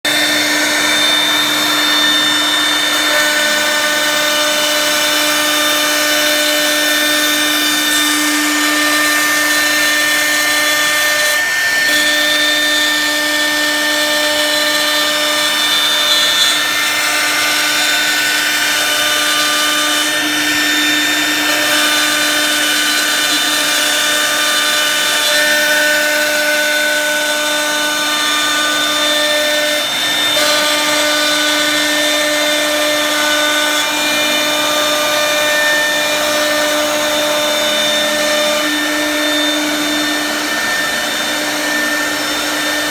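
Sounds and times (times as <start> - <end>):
power tool cutting wood: 0.0 - 42.9.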